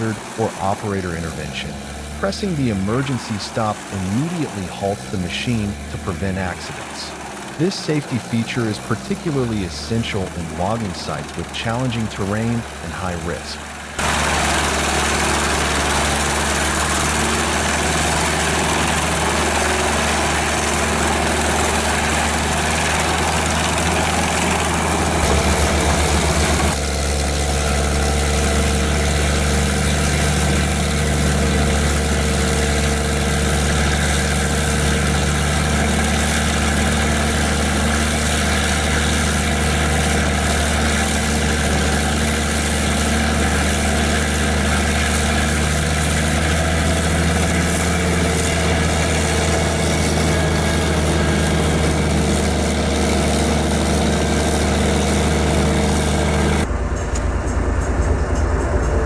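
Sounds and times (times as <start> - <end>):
wood chipper engine hum: 0.0 - 57.0.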